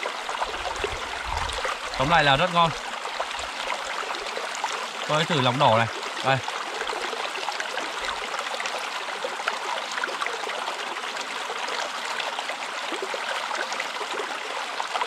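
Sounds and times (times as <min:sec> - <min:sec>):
stream water babbling: 0:00.0 - 0:15.0.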